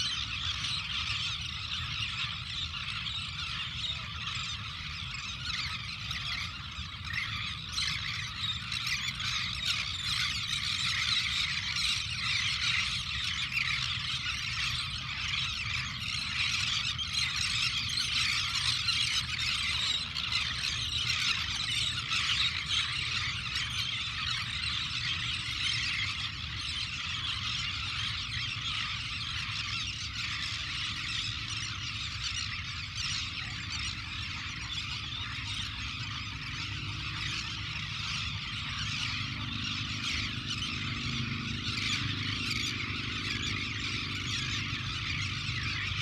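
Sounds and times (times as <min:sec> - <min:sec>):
flock of birds calling: 0:00.0 - 0:46.0.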